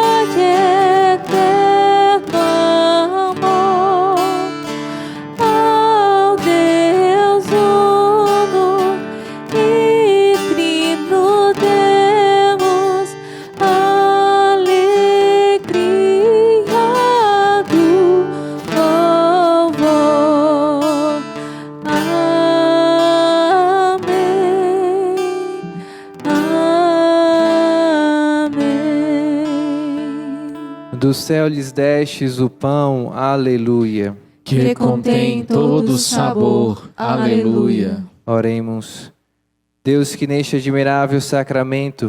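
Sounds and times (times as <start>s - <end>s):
strummed acoustic guitar: 0.0s - 38.0s
person singing with vibrato: 0.0s - 38.2s.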